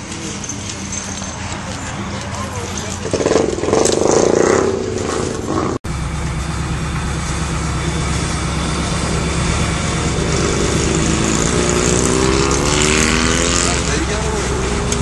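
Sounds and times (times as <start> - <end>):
car engine running: 0.2 - 15.0.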